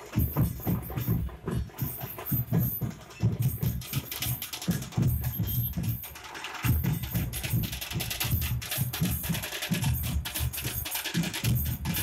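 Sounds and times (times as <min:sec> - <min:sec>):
drums beating fast: 0:00.0 - 0:12.0.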